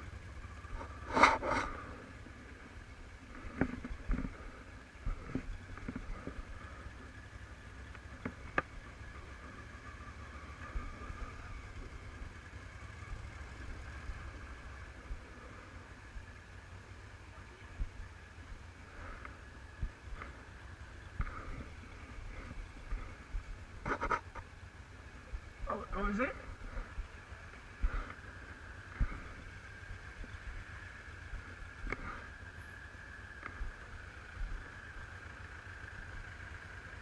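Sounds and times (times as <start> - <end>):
muffled motorcycle engine rumble: 0.0 - 37.0.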